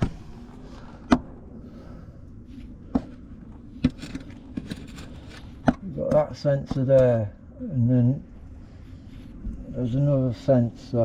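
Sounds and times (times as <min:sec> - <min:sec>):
faint steady background noise: 0:00.0 - 0:11.0.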